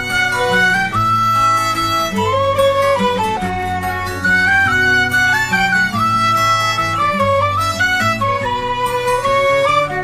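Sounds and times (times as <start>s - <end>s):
instrumental music with fiddle melody: 0.0s - 10.0s.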